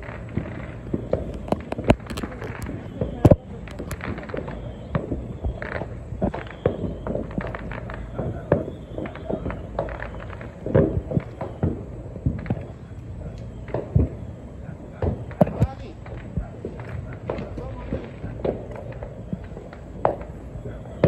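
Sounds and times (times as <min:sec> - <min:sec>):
fireworks popping and cracking: 0:00.0 - 0:21.0.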